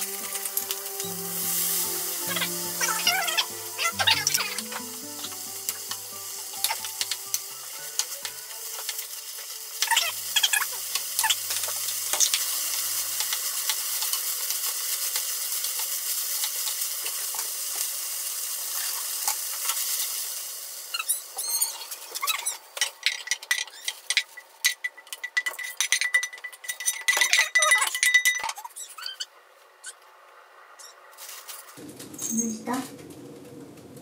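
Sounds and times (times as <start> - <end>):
filling sizzling in frying pan: 0.0 - 27.4.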